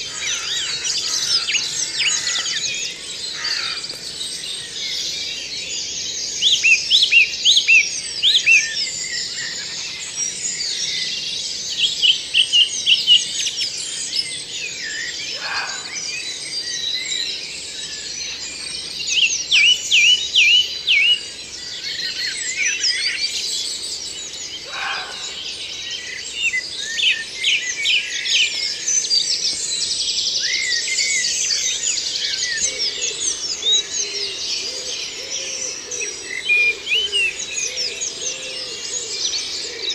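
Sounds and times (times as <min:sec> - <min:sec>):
songbirds singing chorus: 0:00.0 - 0:39.9.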